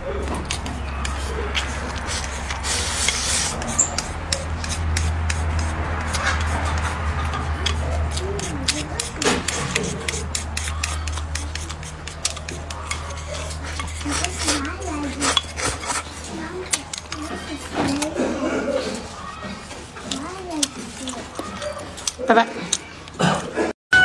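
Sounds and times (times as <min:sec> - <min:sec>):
chewing and mouth sounds: 0:00.0 - 0:23.7
crisp clicks and rubbing: 0:00.2 - 0:23.2.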